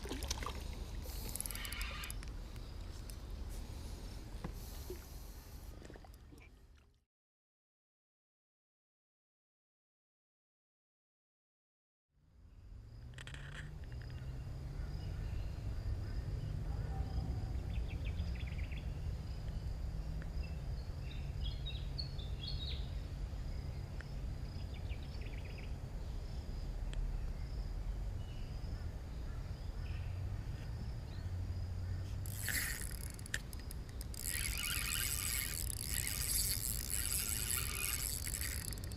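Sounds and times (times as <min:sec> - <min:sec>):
insect drone: 0:00.0 - 0:05.8, 0:12.2 - 0:38.9.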